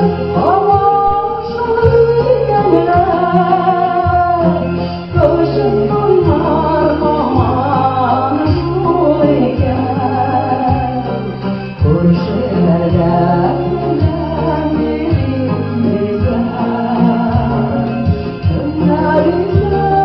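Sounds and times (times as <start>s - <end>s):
instrumental accompaniment with bass: 0.0s - 20.0s
woman singing into microphone: 0.0s - 20.0s.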